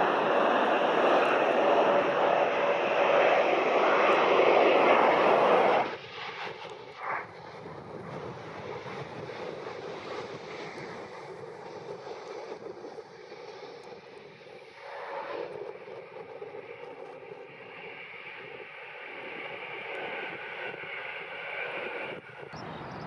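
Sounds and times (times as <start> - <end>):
distant engine noise: 0.0 - 12.5, 14.7 - 23.0
jet engines roaring: 0.0 - 23.0.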